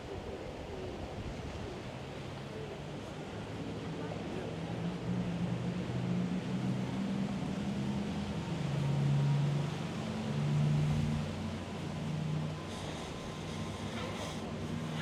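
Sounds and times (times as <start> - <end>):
low engine hum: 0.0 - 15.0
outdoor noise: 0.0 - 15.0.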